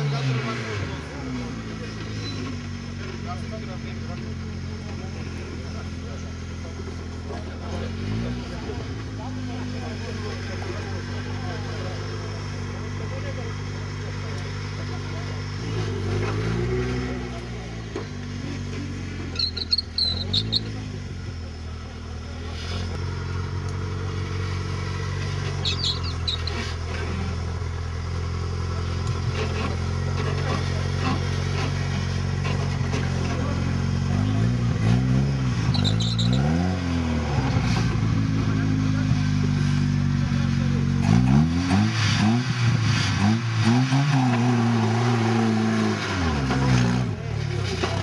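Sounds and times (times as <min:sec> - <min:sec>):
buggy engine with throttle blips: 0:00.0 - 0:48.0.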